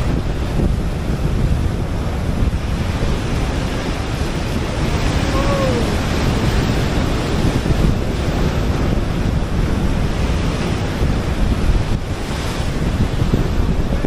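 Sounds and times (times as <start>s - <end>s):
surf washing against rocks: 0.0s - 14.0s
wind buffeting microphone: 0.0s - 14.0s.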